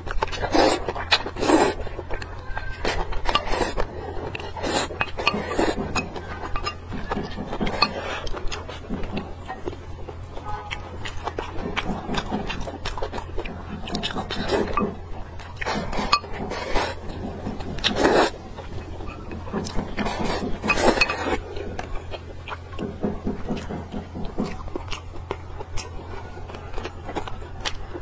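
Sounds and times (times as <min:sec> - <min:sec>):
noodles slurped and chewed: 0:00.0 - 0:28.0.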